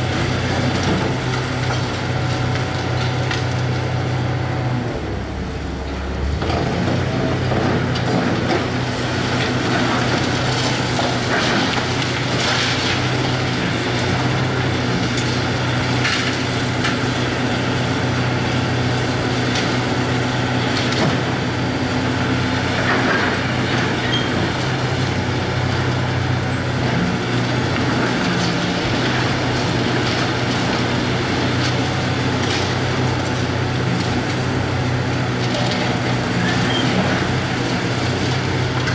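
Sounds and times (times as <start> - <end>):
wood and debris cracking: 0.0 - 4.0, 6.4 - 38.9
excavator diesel engine running: 0.0 - 38.9.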